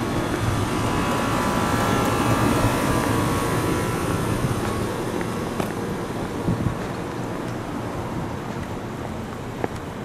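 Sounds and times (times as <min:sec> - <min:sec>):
passing vehicle whine: 0:00.0 - 0:10.0
street traffic noise: 0:00.0 - 0:10.0.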